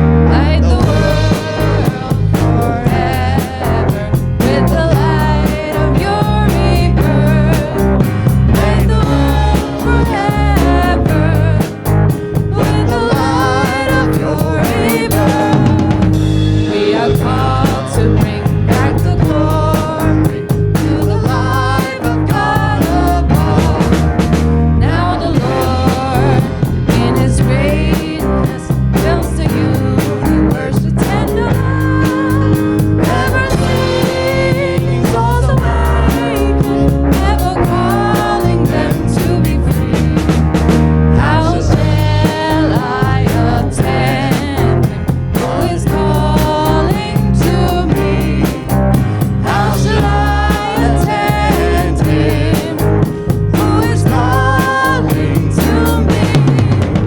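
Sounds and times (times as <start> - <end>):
person singing: 0.0 - 40.4, 41.1 - 57.0
bass guitar: 0.0 - 57.0
electric guitar: 0.0 - 57.0
drum kit beat: 0.1 - 57.0.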